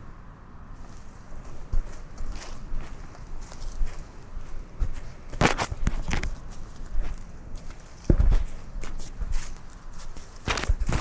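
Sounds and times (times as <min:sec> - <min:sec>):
rustles: 0:00.7 - 0:11.0
cat paws stepping on ground: 0:00.8 - 0:11.0.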